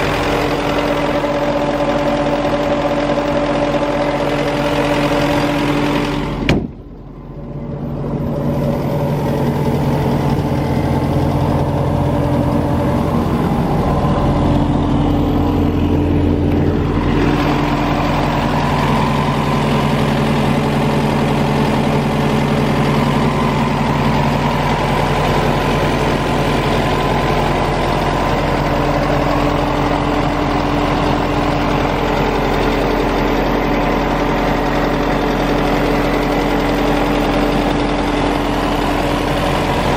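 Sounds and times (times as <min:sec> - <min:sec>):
air compressor diesel engine running: 0:00.0 - 0:39.9.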